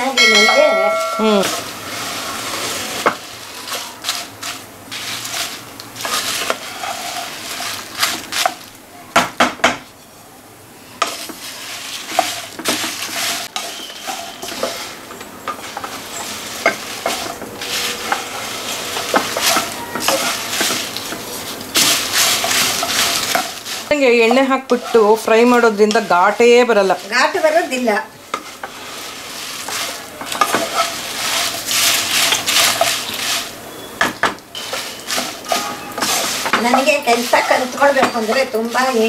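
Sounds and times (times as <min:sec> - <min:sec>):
chillies sizzling in oil: 0:00.0 - 0:39.0
spatula scraping pan: 0:00.3 - 0:08.6, 0:11.0 - 0:33.9, 0:34.5 - 0:39.0.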